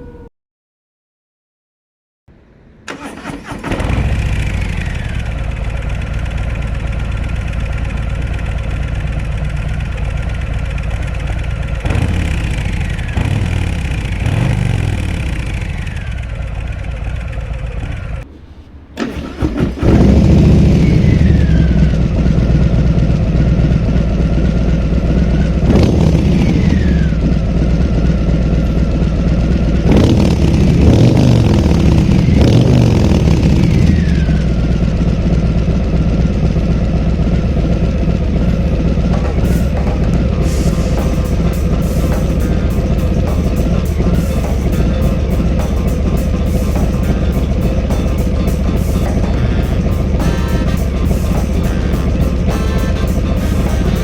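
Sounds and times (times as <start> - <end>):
motorcycle engine idling: 2.9 - 18.3, 19.0 - 54.0.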